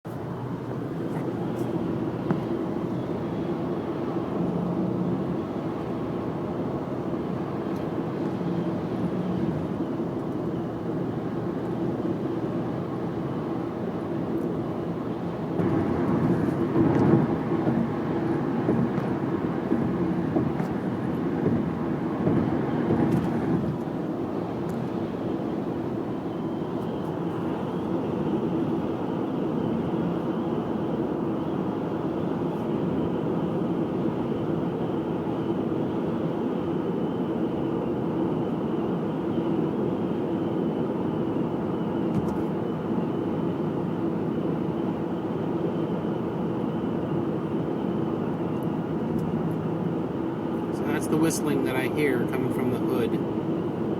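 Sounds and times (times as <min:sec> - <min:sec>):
car interior road and engine drone: 0:00.1 - 0:36.7, 0:40.8 - 0:53.9.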